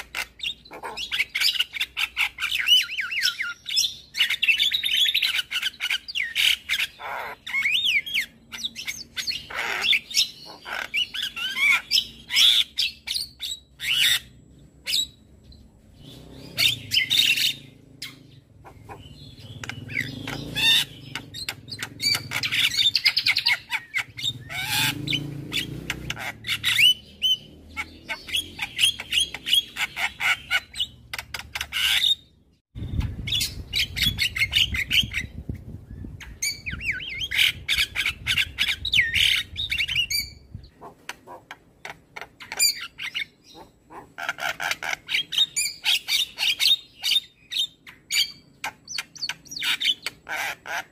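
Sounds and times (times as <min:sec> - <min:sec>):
bird harsh squawks: 0:00.0 - 0:15.2, 0:16.4 - 0:32.3, 0:36.4 - 0:47.4.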